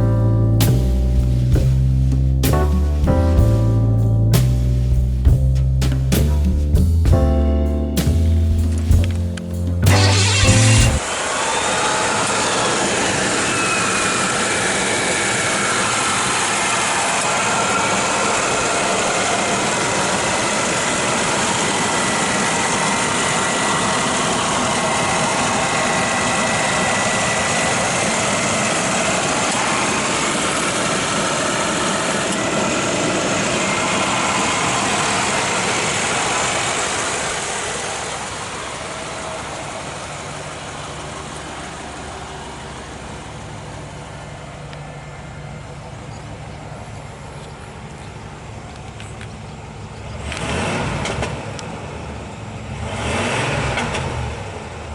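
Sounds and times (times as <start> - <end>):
car engine idling: 0.0 - 11.1, 12.5 - 52.9.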